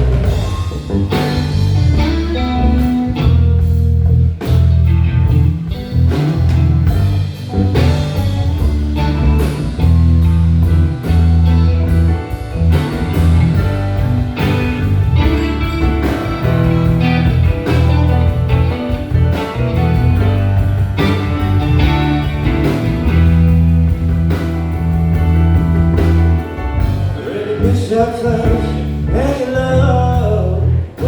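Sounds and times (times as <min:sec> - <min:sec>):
drum kit: 0:00.0 - 0:31.0
electric bass: 0:00.0 - 0:31.0
guitar: 0:00.0 - 0:31.0
keyboards: 0:00.0 - 0:31.0.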